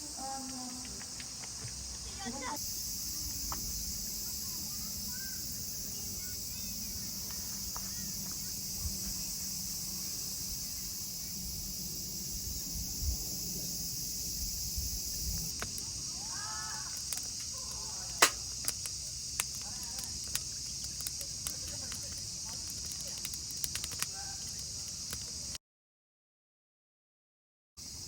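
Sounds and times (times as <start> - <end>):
insects shrilling: 0.0 - 25.6.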